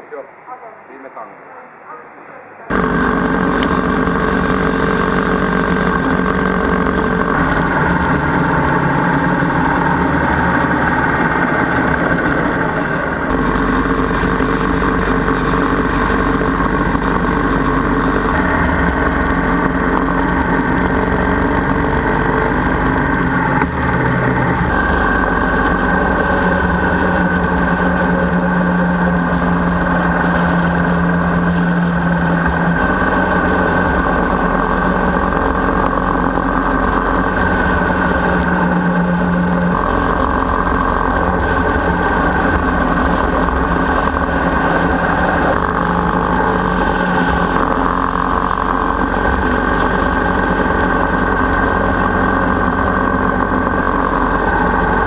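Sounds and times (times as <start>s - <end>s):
motorcycle engine cruising: 2.7s - 55.0s.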